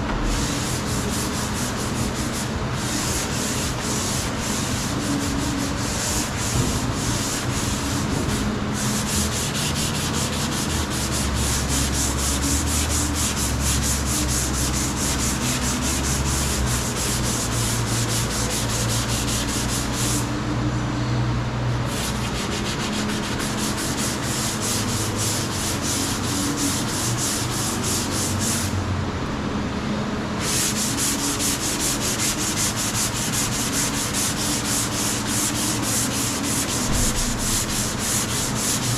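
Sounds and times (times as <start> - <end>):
sanding scratchy rasp: 0.2 - 20.3, 21.9 - 28.7, 30.4 - 38.9.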